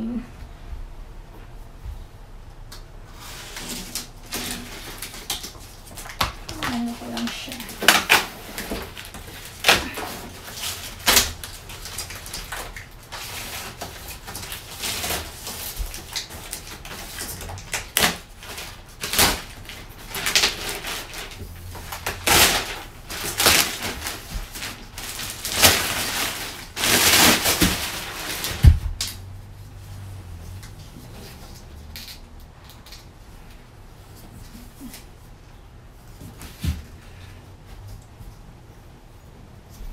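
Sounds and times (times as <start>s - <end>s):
cardboard packaging rustling: 3.2s - 35.2s.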